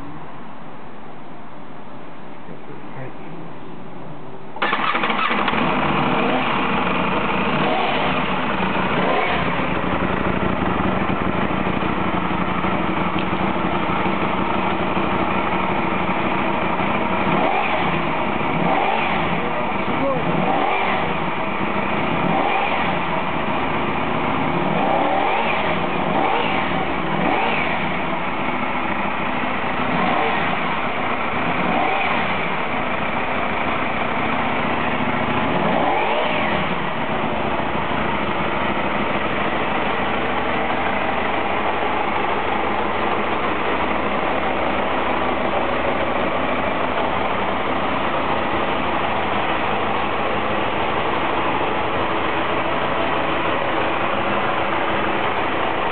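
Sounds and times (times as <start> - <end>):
motorcycle engine revving and idling: 4.6 - 55.9.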